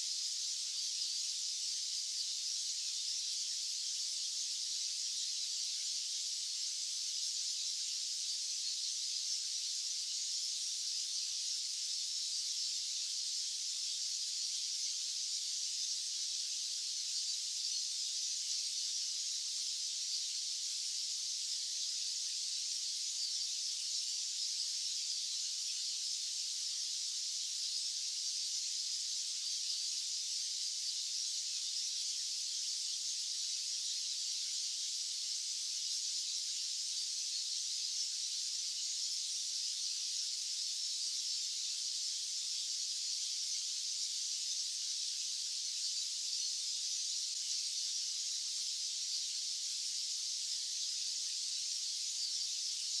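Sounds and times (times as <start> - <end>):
high-pitched white-noise hiss: 0.0 - 53.0.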